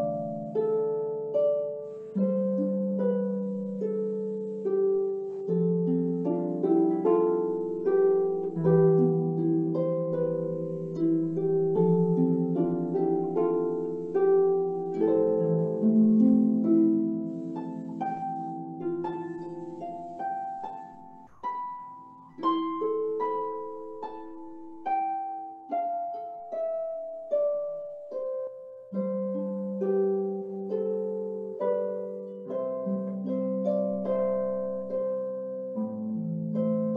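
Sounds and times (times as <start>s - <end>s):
harp playing: 0.0s - 36.9s.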